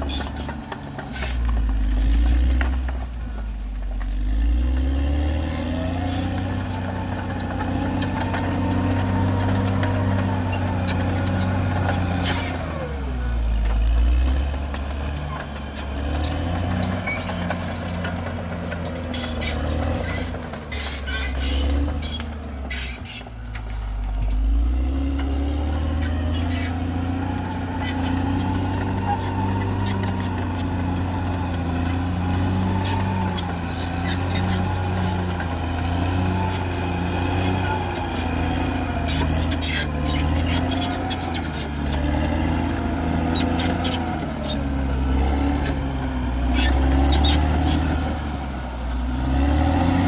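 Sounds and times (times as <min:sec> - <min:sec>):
bulldozer diesel engine under load: 0:00.0 - 0:50.0.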